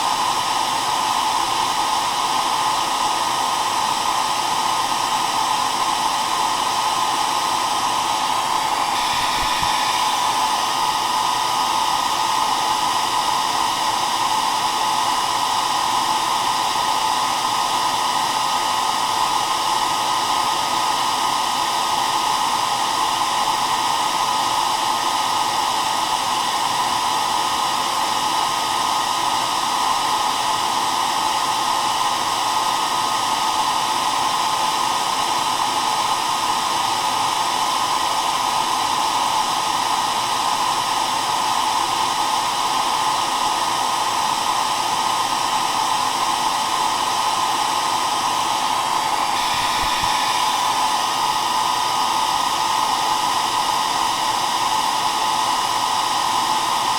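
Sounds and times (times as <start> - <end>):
hair dryer blowing: 0.0 - 56.9.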